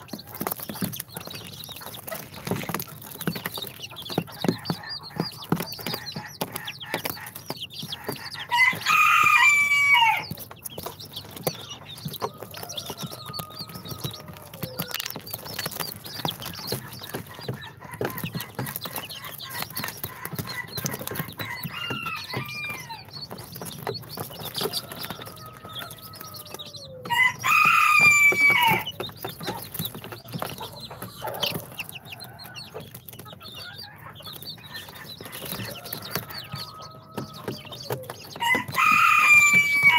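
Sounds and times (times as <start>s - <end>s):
chicks calling: 0.0s - 39.9s
drawn-out crowing calls: 0.0s - 39.9s.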